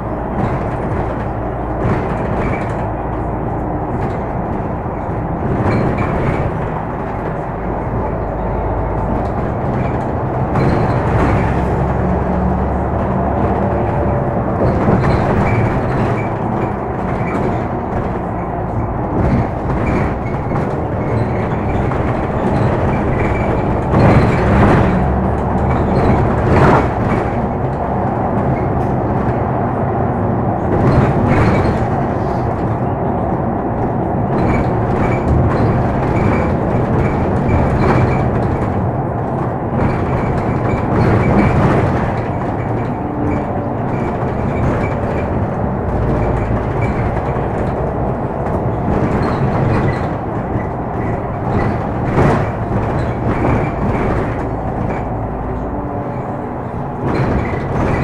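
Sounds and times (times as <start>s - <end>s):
bus body knocks and rattles: 0.0s - 58.0s
bus engine drone: 0.0s - 58.0s
road noise: 0.0s - 58.0s.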